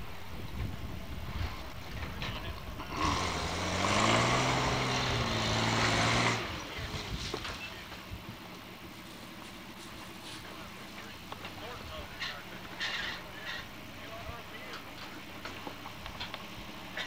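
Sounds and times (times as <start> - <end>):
truck engine revving: 1.2 - 17.0.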